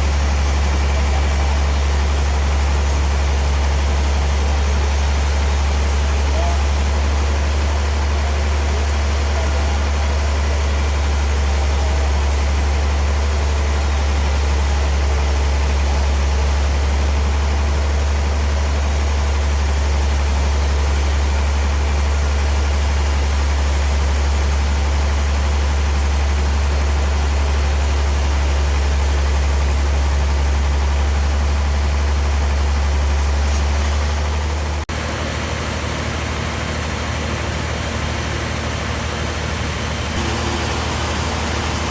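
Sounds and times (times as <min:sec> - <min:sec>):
sawmill machinery humming: 0:00.0 - 0:41.9.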